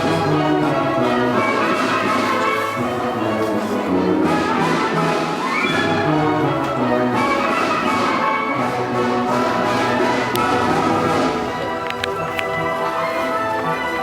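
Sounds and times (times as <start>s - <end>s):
orchestral music with brass: 0.0s - 14.0s.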